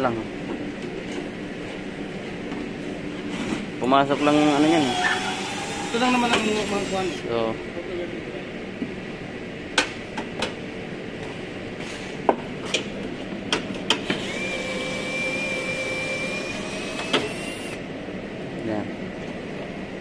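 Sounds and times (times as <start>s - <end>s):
steady background hum: 0.0s - 20.0s
steady high whine: 0.0s - 20.0s.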